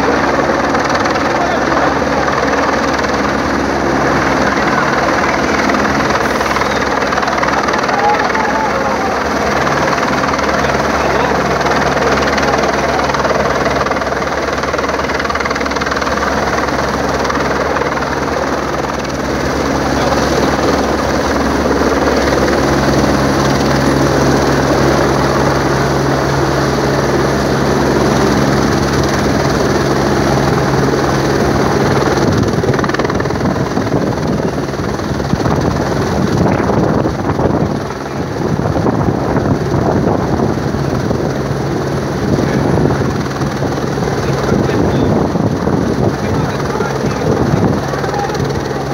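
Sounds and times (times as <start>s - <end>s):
helicopter rotor and turbine drone: 0.0s - 48.9s.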